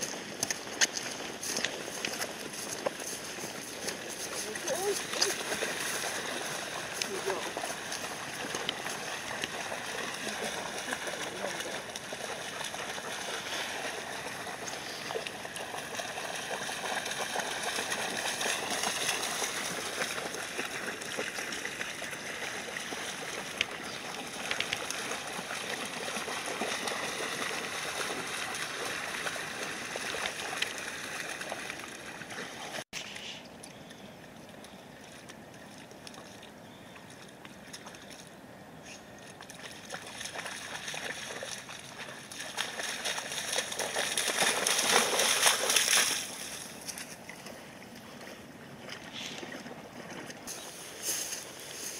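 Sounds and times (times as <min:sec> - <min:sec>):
dogs splashing through river water: 0:00.0 - 0:51.9.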